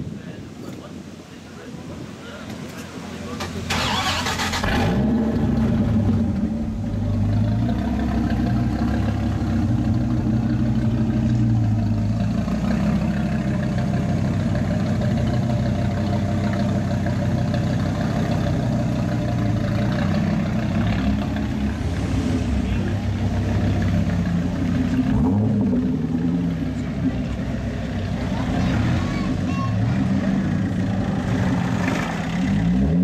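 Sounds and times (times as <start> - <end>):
car engine idling: 2.3 - 32.9.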